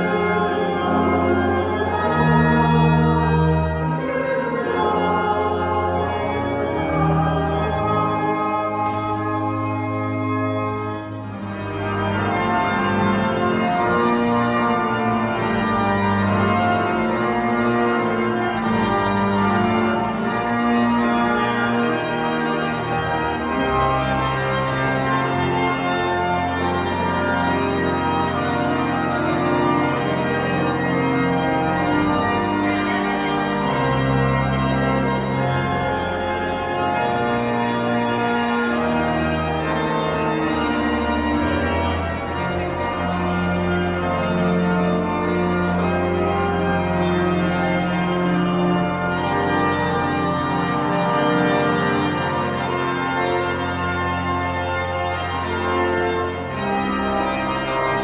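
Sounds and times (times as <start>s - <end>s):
church organ playing: 0.0s - 58.0s.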